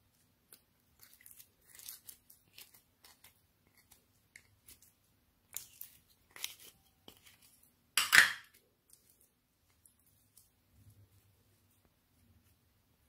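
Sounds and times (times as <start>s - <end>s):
wet slime squelch: 0.0s - 12.8s.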